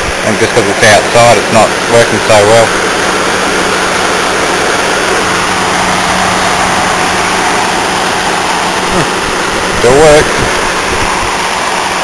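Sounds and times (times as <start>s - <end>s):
air conditioner fan rushing: 0.0s - 12.0s
low hum: 0.0s - 12.0s.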